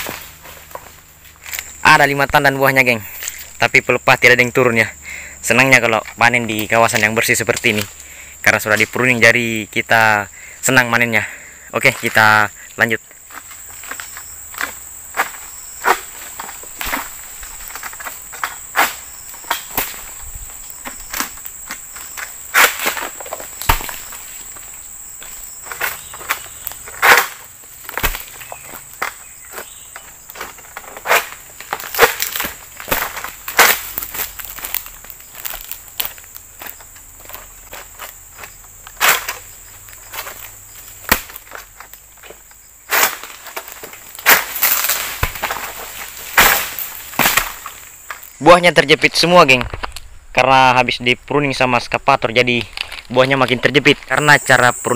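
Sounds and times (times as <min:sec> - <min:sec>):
harvesting sickle rustling fronds: 0:00.0 - 0:03.7, 0:05.8 - 0:09.3, 0:13.2 - 0:48.4, 0:52.2 - 0:54.9
high-pitched insect drone: 0:00.0 - 0:42.9, 0:50.4 - 0:54.9.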